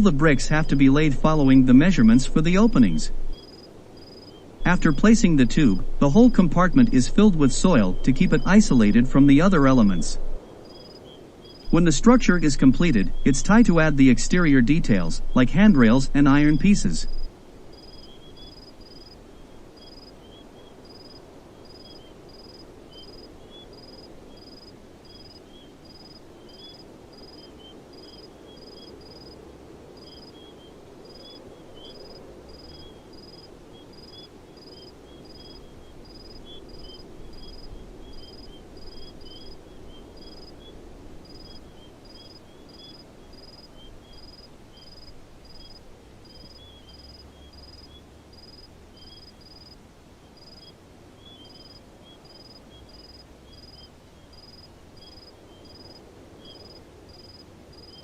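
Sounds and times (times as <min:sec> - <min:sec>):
faint twittering: 0:00.0 - 0:29.4, 0:30.0 - 0:58.0
insect chirping: 0:00.0 - 0:58.0
low background hiss: 0:00.0 - 0:58.0.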